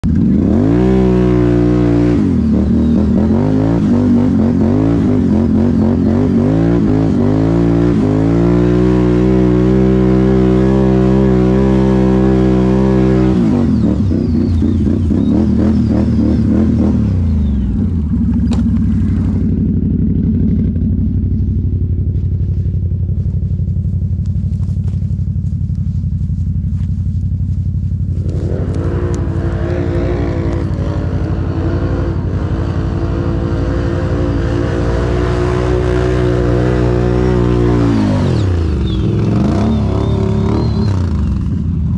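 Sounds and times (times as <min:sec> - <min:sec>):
atv engine idling: 0:00.0 - 0:41.9
atv engine revving: 0:00.0 - 0:41.9.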